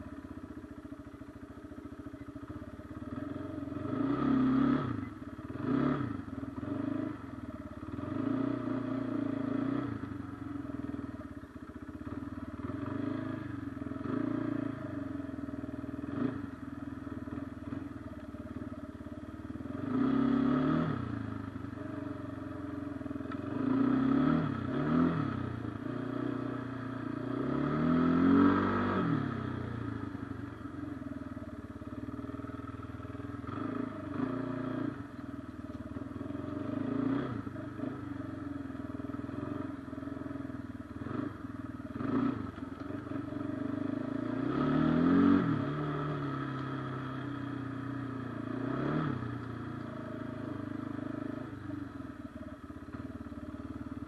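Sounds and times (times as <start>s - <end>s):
atv engine revving: 2.4s - 54.0s.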